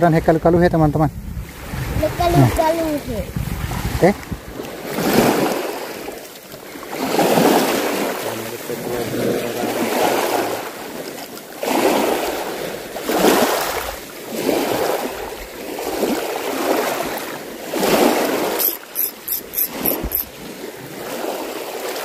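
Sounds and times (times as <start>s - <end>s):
small waves washing ashore: 0.0s - 22.0s.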